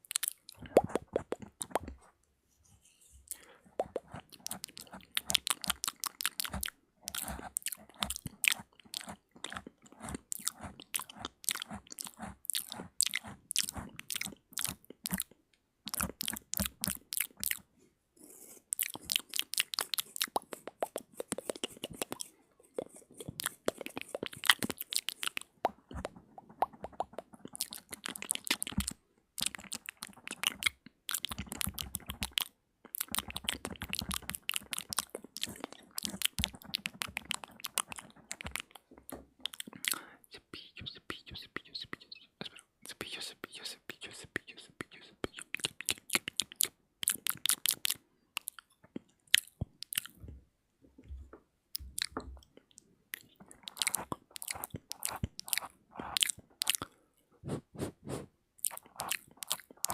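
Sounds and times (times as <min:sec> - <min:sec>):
wet mouth clicks and lip smacks: 0:00.0 - 0:02.0, 0:03.3 - 0:17.6, 0:18.7 - 0:22.3, 0:23.2 - 0:50.3, 0:51.7 - 0:57.0, 0:58.6 - 0:59.9.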